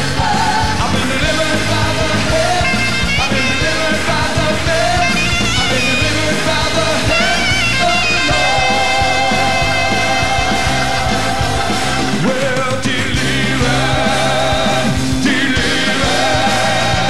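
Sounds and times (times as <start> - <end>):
gospel band with drums: 0.0 - 17.0
people singing: 0.0 - 17.0.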